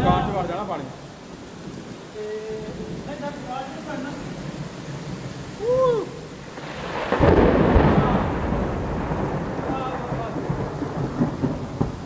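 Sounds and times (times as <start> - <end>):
thunder rumble: 0.0 - 2.0, 2.6 - 12.0
heavy rain on pavement: 0.0 - 12.0.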